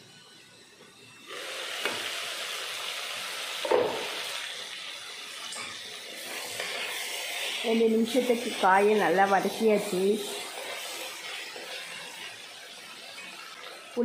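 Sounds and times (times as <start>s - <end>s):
vegetables sizzling in oil: 1.2s - 14.0s.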